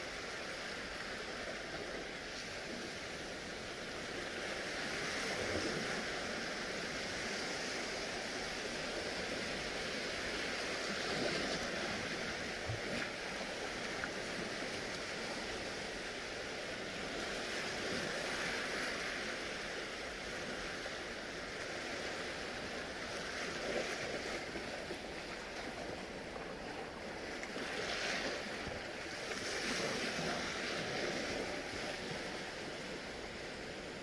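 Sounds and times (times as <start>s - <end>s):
small waves washing on shore: 0.0s - 34.0s.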